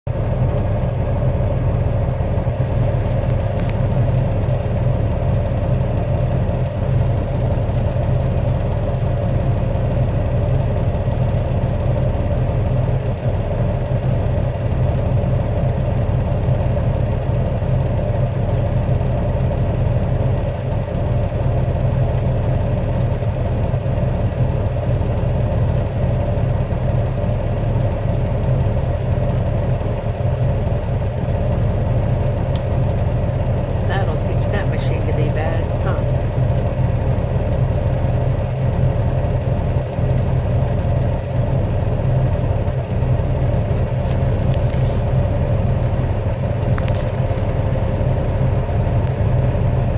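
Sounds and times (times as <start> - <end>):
pile driver machinery drone: 0.1 - 49.9.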